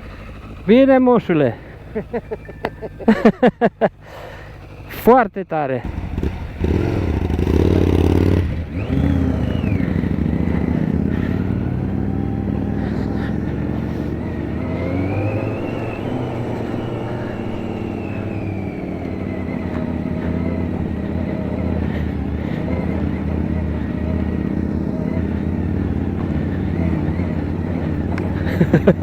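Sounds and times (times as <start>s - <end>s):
motorcycle engine revving: 0.0s - 5.2s, 5.8s - 29.0s.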